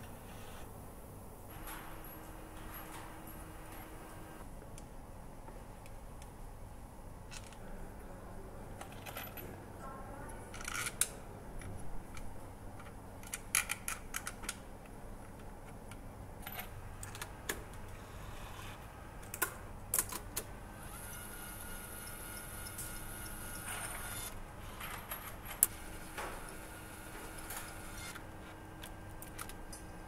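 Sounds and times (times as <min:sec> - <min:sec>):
low hum of factory machinery: 0:00.0 - 0:30.0.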